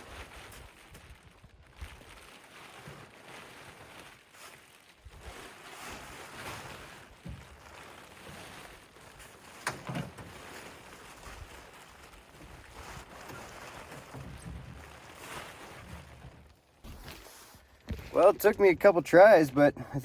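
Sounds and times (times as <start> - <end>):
plastic tarp rustling and crinkling: 0.0 - 20.0.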